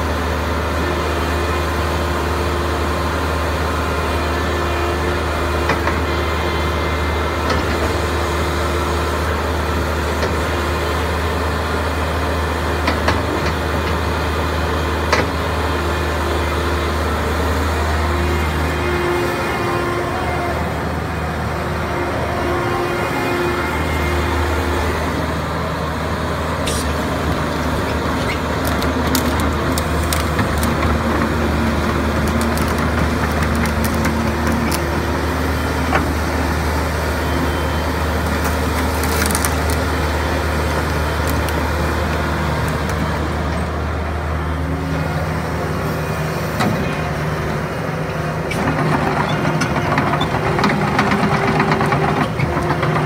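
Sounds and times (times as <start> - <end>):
excavator diesel engine droning: 0.0 - 53.0.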